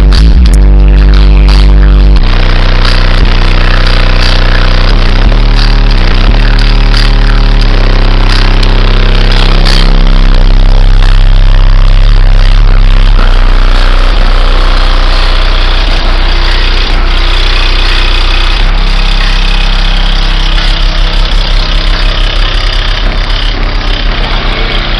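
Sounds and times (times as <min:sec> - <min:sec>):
distorted deep bass tone: 0:00.0 - 0:24.9.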